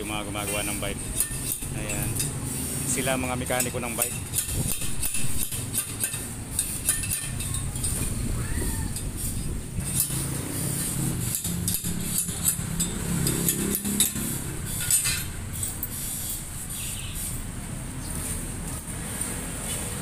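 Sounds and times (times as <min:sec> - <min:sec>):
metal tools clinking on bicycle parts: 0:00.0 - 0:08.3, 0:08.9 - 0:16.9.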